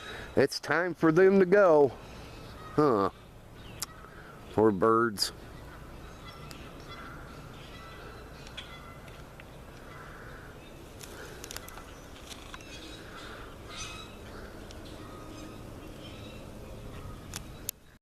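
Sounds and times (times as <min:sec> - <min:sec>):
geese honking: 0:02.0 - 0:17.6.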